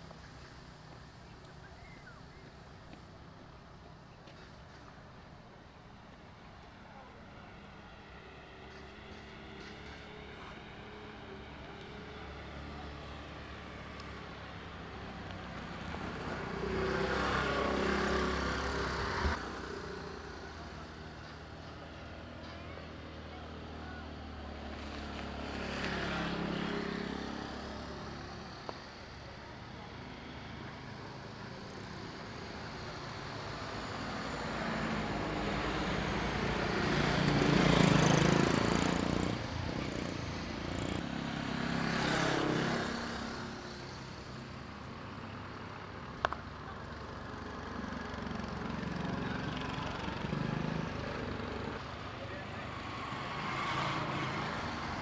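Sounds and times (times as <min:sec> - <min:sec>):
motor traffic passing: 0:00.0 - 0:55.0.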